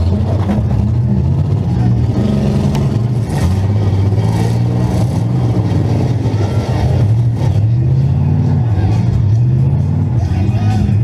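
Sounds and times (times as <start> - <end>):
car engine running loudly: 0.0 - 11.0.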